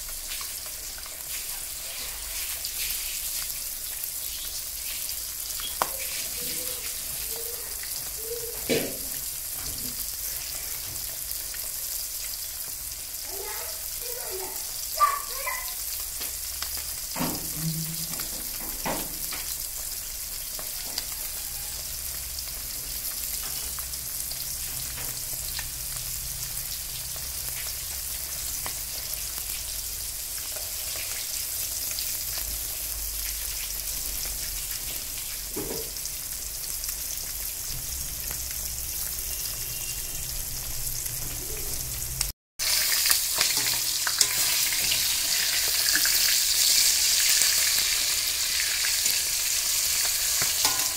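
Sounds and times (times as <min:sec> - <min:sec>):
fish sizzling in hot oil: 0:00.0 - 0:50.9.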